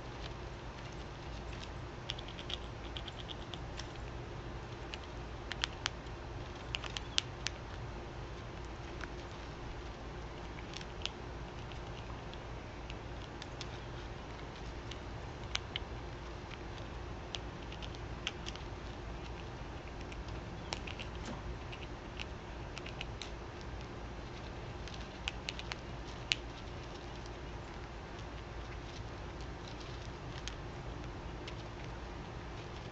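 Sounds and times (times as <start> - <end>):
animals pecking at food: 0.0 - 32.9
steady low hum: 0.0 - 32.9.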